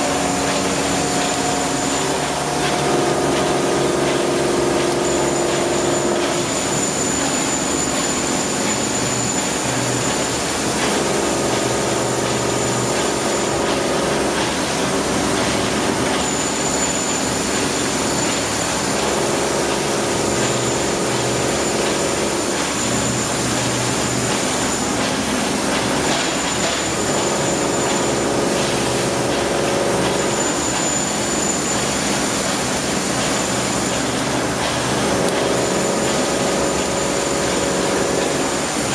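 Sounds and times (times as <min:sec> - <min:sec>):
machine humming tone: 0:00.0 - 0:38.9.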